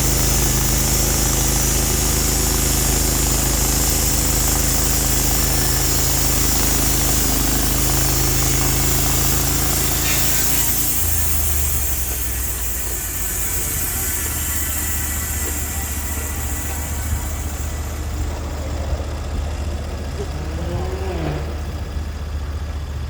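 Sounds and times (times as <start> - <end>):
high hiss: 0.0 - 19.8
sawmill engine running: 0.0 - 23.0.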